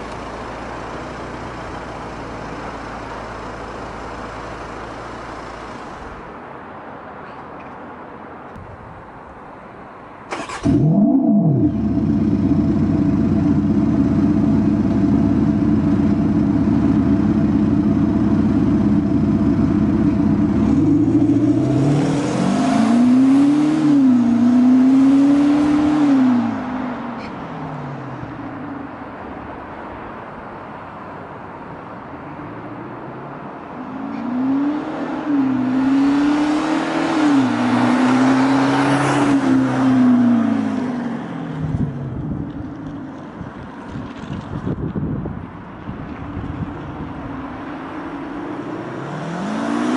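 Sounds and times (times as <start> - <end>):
pickup engine idling and accelerating: 0.0 - 6.6, 10.4 - 49.9.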